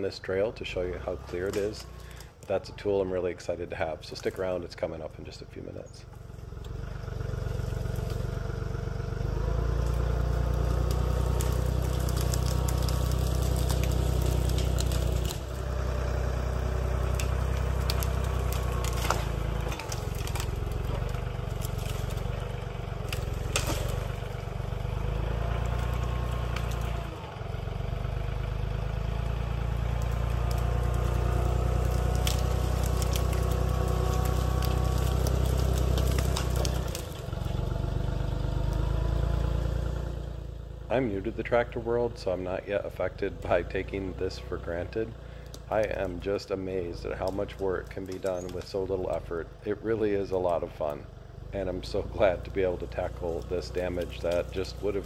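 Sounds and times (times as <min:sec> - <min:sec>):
tractor diesel engine running: 0:00.0 - 0:55.0
branches snapping and scraping: 0:00.8 - 0:05.0, 0:06.1 - 0:27.8, 0:28.4 - 0:40.2, 0:43.2 - 0:55.0.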